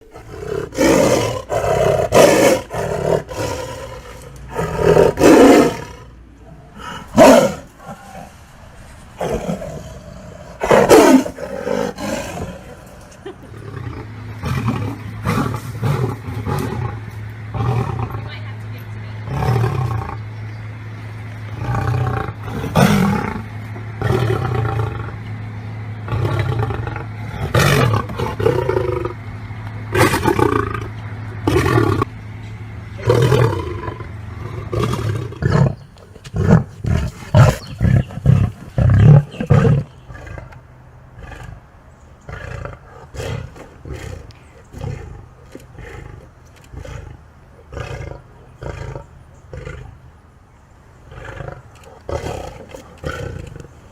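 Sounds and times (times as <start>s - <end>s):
lion grunting: 0.0s - 18.3s, 21.4s - 25.3s, 26.0s - 29.2s, 33.0s - 41.6s, 42.2s - 50.0s, 51.1s - 53.9s
lion roaring: 0.0s - 18.3s, 19.2s - 20.4s, 21.4s - 29.2s, 29.9s - 32.1s, 33.0s - 50.0s, 51.0s - 53.9s.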